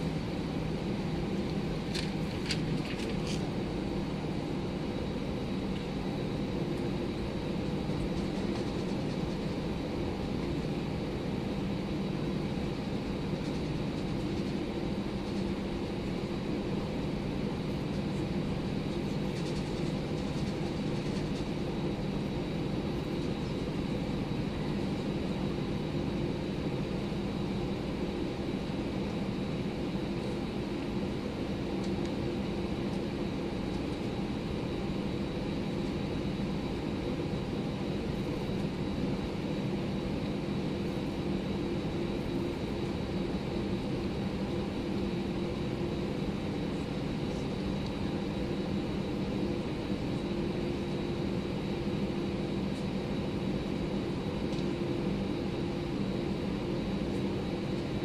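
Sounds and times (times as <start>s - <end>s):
airliner cabin noise: 0.0s - 58.0s
faint high whine: 0.0s - 58.0s.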